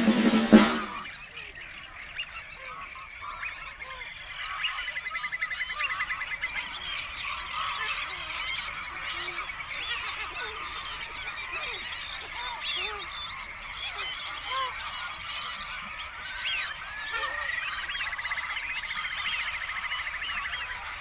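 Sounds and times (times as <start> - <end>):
birds chirping and whistling: 0.0 - 21.0
fast rattling bird trill: 0.0 - 21.0.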